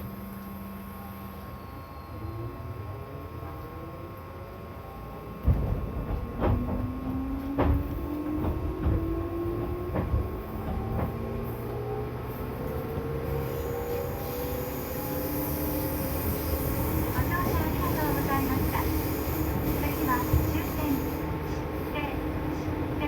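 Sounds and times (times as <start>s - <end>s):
train traction motors whining: 0.0s - 23.0s.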